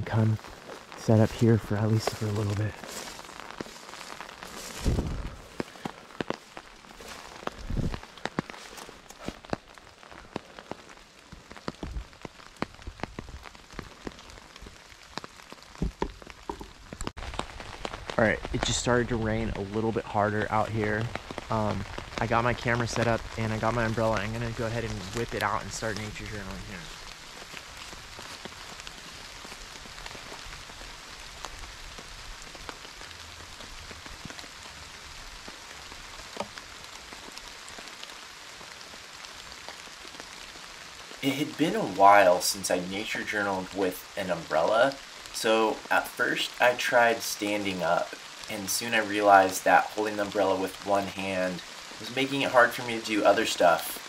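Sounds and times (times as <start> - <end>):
faint rain hiss: 0.0 - 54.0
raindrops ticking: 0.0 - 54.0.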